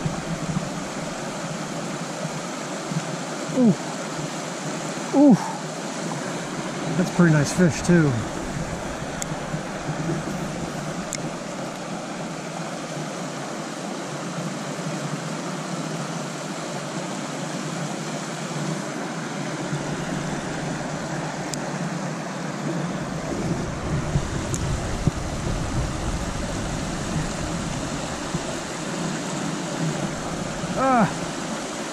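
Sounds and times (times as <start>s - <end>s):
creek water rushing: 0.0s - 31.9s.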